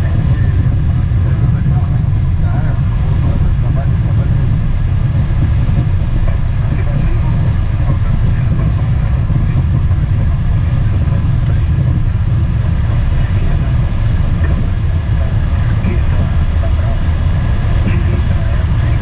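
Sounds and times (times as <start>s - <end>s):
jet engine and airflow rumble: 0.0s - 19.0s.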